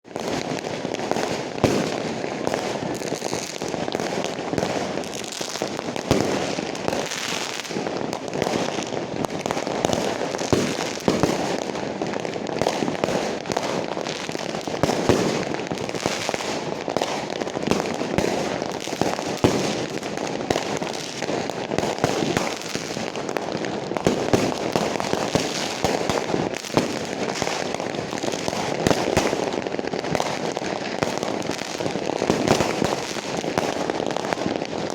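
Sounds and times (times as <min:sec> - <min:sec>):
fireworks bangs and pops: 0:00.0 - 0:34.9
fireworks crackle: 0:00.0 - 0:34.9.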